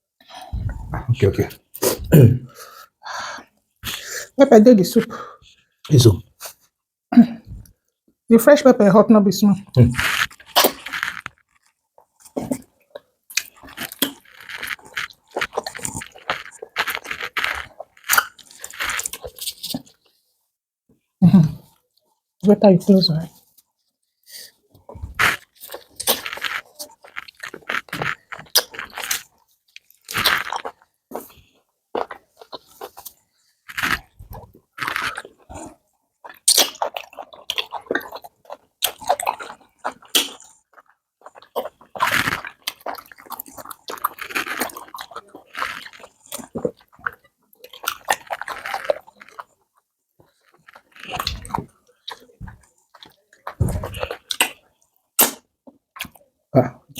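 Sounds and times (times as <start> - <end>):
person chewing food: 0.2 - 4.4, 9.7 - 20.2, 23.5 - 56.9.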